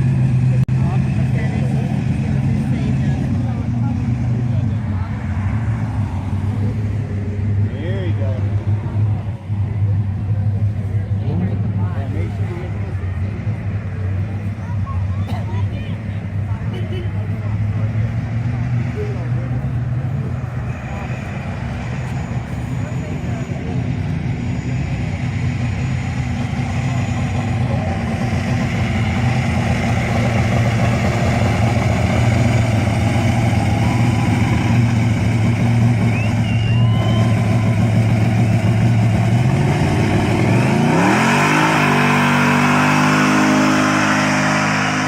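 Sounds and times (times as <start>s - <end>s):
car engine running and revving: 0.0s - 45.0s.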